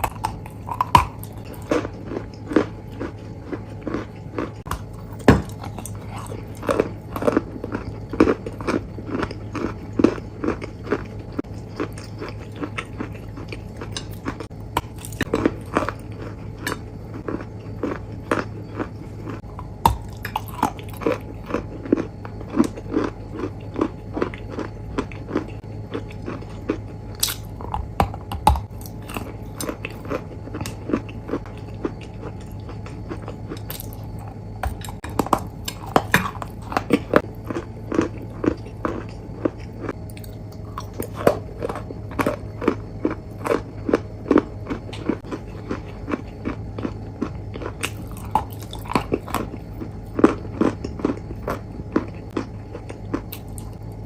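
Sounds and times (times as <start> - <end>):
crunchy food being chewed: 0.0 - 54.0
steady low hum: 0.0 - 54.0.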